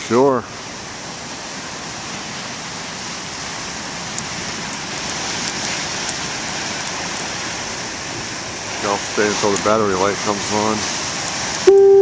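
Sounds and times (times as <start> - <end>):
heavy surf rushing: 0.0 - 12.0.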